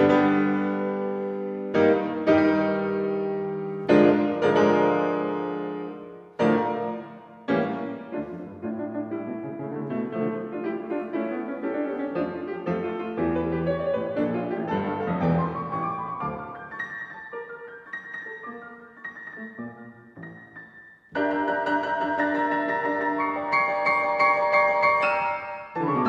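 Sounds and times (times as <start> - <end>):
grand piano playing: 0.0 - 26.0.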